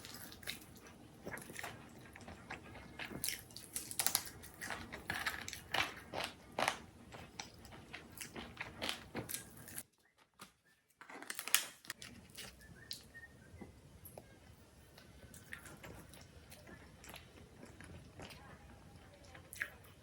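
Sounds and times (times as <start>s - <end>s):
crunching and chewing crispy food: 0.0s - 10.2s, 11.0s - 20.0s.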